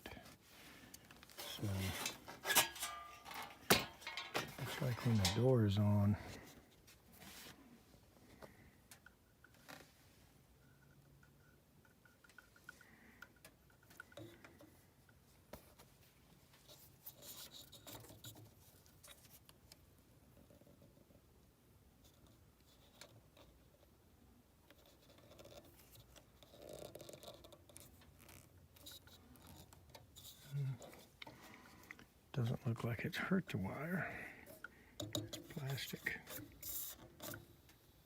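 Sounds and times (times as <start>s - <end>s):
faint scrapes and rustles: 0.0s - 21.3s, 22.0s - 38.0s.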